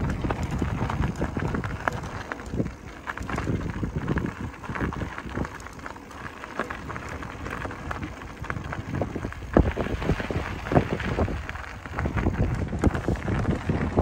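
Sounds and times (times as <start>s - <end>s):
bicycle tyres on gravel: 0.0s - 14.0s.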